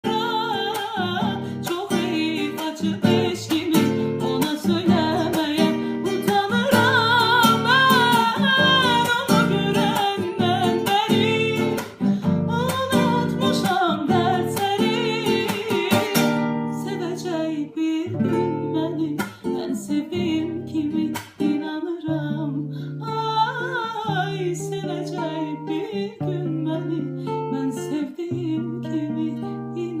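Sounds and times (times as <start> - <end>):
plucked acoustic guitar: 0.0 - 30.0
woman singing: 0.0 - 30.0.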